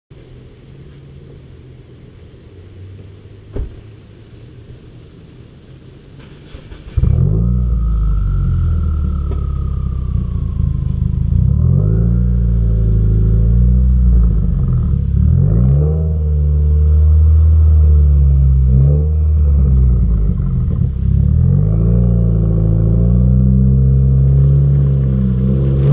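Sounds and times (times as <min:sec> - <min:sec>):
car engine and exhaust: 0:00.1 - 0:25.9.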